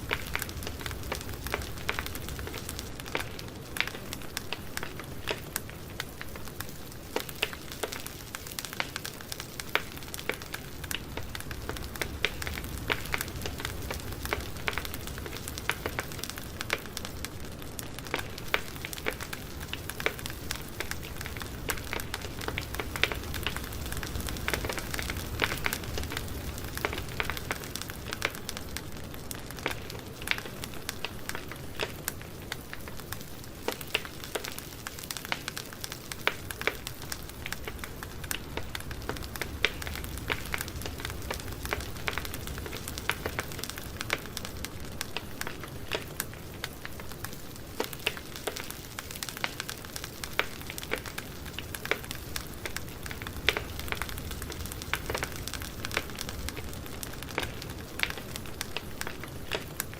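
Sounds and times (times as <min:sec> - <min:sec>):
campfire wood crackling: 0:00.0 - 0:59.9
low rush of flame: 0:00.0 - 0:59.9.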